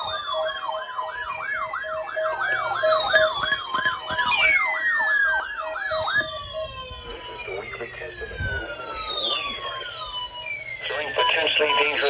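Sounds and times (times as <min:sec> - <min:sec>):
pulsing steady siren tone: 0:00.0 - 0:12.0
siren fast yelp: 0:00.0 - 0:12.0
slowly falling siren wails: 0:00.0 - 0:12.0.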